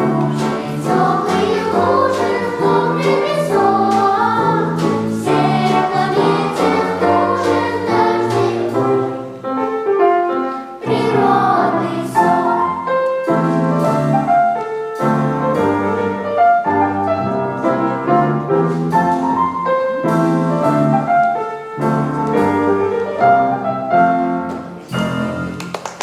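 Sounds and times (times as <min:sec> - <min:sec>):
piano-led instrumental music: 0:00.0 - 0:26.0.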